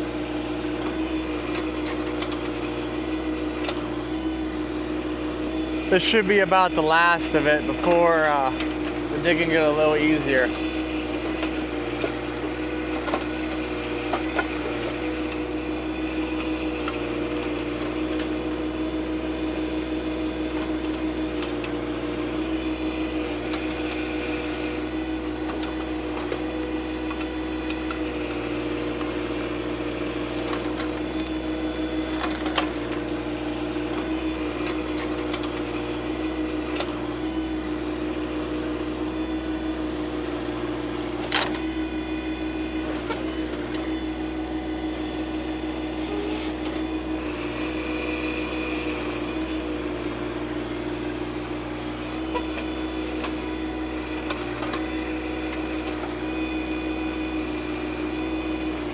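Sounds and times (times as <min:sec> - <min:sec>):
backhoe digging ground: 0:00.0 - 0:58.9
diesel tractor engine running: 0:00.0 - 0:58.9.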